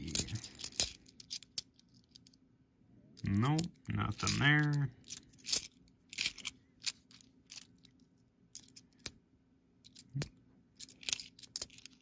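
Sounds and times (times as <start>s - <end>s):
coins clicking and scraping: 0.0s - 2.4s, 4.0s - 9.2s, 9.8s - 12.0s.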